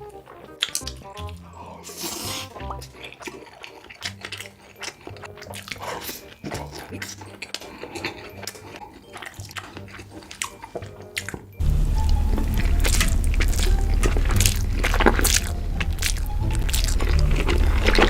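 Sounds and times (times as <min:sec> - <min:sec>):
mouth clicks and smacks: 0:00.0 - 0:11.6, 0:12.3 - 0:18.0
low background music: 0:00.0 - 0:18.0
noodles slurped and chewed: 0:00.0 - 0:18.0.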